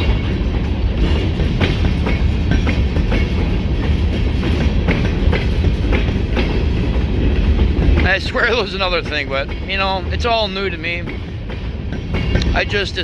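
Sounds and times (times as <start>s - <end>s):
freight train rumbling: 0.0s - 13.0s
wheels clicking over rail joints: 0.0s - 13.0s.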